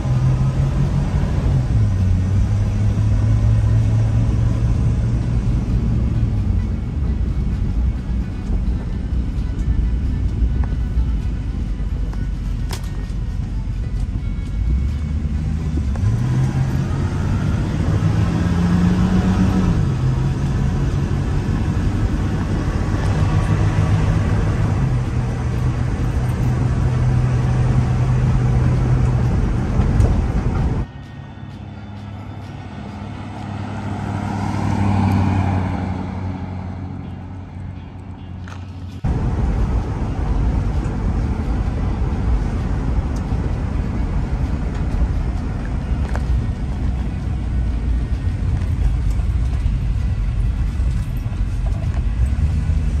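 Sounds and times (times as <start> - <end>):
road and wind noise: 0.0 - 53.0
van engine hum: 0.0 - 53.0.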